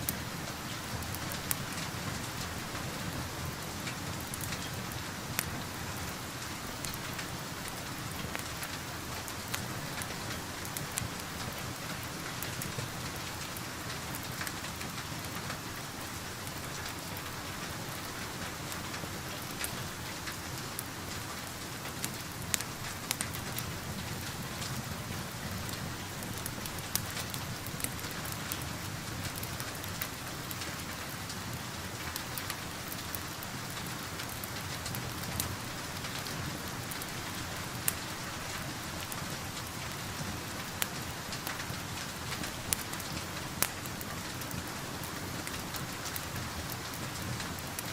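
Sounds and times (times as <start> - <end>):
steady rain falling: 0.0 - 47.9
wood fire pops and crackles: 0.1 - 47.9.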